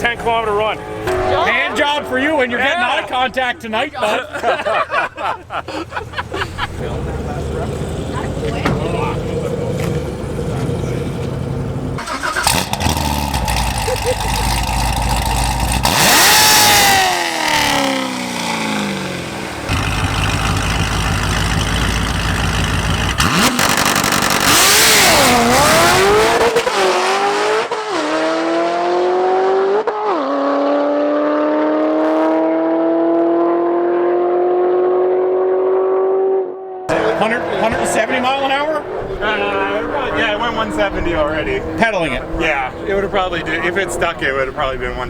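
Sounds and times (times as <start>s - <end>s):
race car accelerating: 0.0s - 3.4s, 5.8s - 45.0s.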